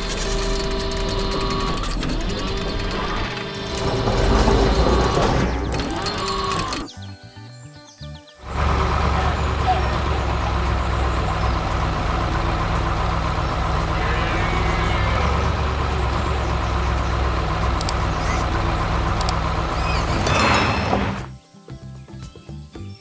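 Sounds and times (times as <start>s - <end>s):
heavy vehicle engine rumbling: 0.0s - 6.9s, 8.4s - 21.3s.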